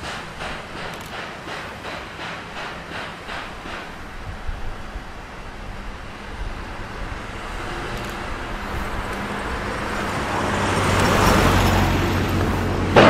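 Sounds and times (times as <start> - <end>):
steam locomotive exhaust: 0.0 - 13.0.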